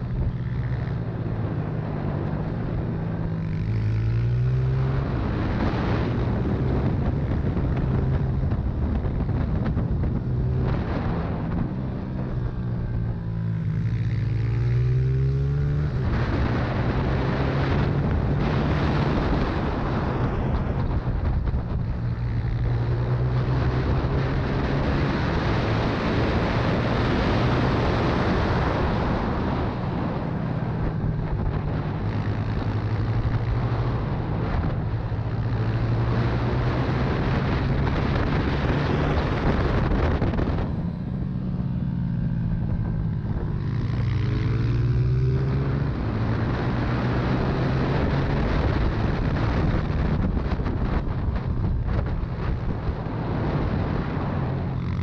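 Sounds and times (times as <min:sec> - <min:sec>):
motorcycle engine running hard: 0:00.0 - 0:55.0
wind noise: 0:00.0 - 0:55.0.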